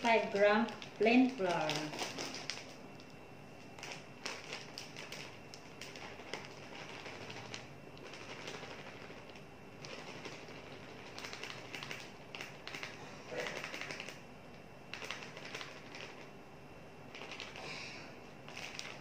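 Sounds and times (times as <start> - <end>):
bag crinkling: 0.0 - 3.1, 3.7 - 14.2, 14.9 - 16.3, 17.1 - 17.6, 18.5 - 19.0.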